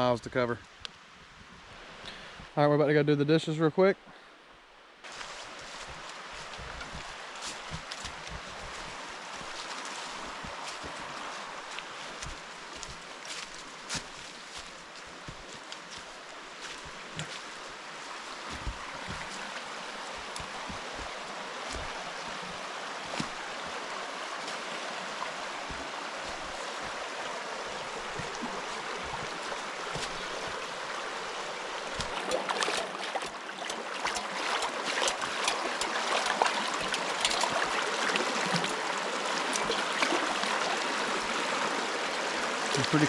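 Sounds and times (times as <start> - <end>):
mountain stream running: 5.0 - 43.0
water splashing: 5.1 - 43.0.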